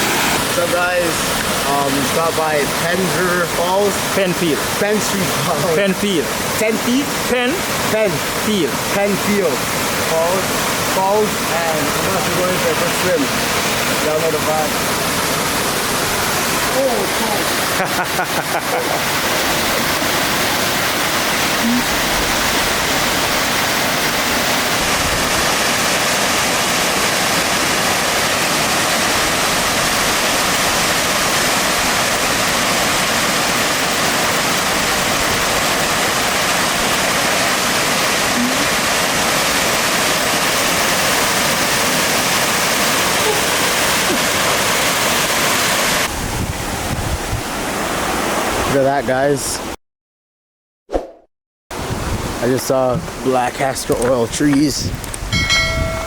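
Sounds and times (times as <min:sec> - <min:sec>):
waterfall roaring: 0:00.0 - 0:46.1, 0:55.4 - 0:56.0.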